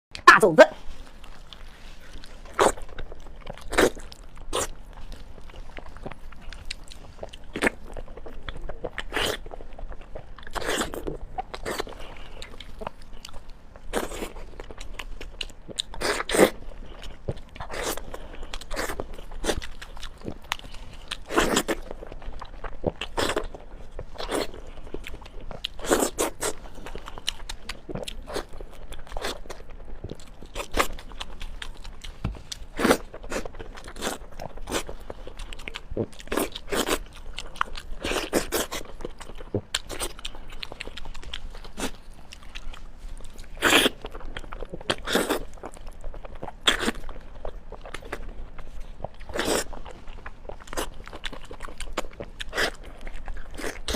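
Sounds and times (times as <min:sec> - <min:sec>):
person chewing crunchy food: 0:00.8 - 0:53.9.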